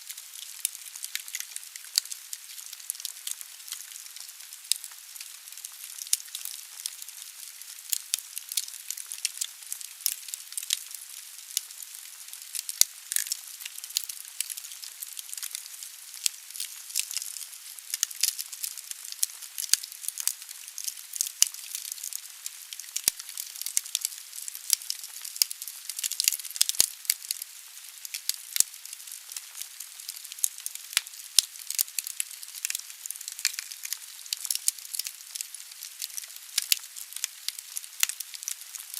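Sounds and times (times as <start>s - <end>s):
logs crackling and popping: 0.0s - 38.9s.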